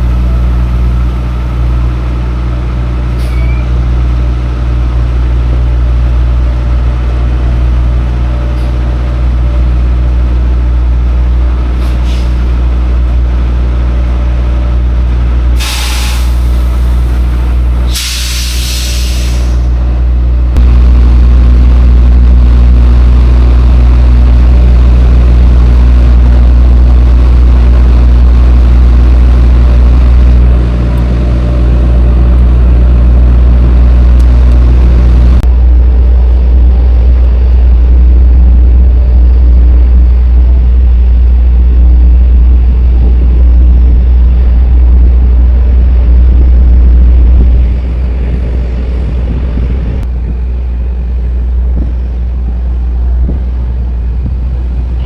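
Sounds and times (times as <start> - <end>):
road noise: 0.0 - 55.0
truck diesel engine rumble: 0.0 - 55.0.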